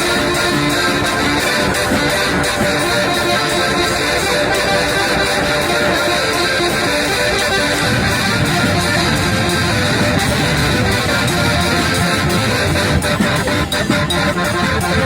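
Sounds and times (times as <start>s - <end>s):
rock band playing live: 0.0s - 15.0s
strummed electric guitar: 0.0s - 15.0s.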